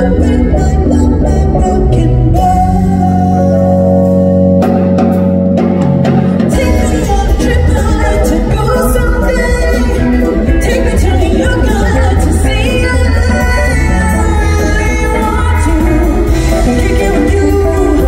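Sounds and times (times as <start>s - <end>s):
woman singing: 0.0s - 4.2s, 6.4s - 18.0s
drums: 0.0s - 18.0s
live band playing: 0.0s - 18.0s.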